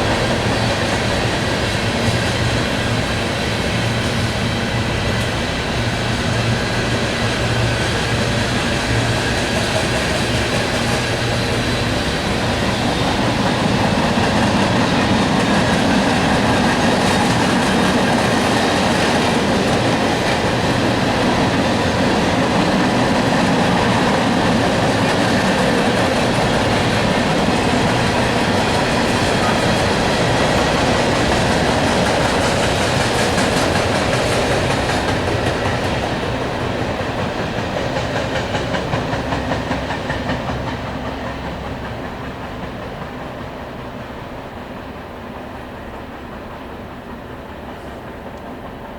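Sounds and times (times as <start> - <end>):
freight train wheels on rails: 0.0 - 48.9.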